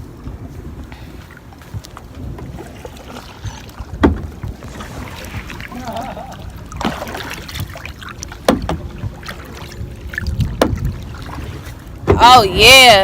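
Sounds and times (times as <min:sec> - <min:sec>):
paddle strokes splashing: 0:00.0 - 0:13.0
steady low rumble: 0:00.0 - 0:13.0.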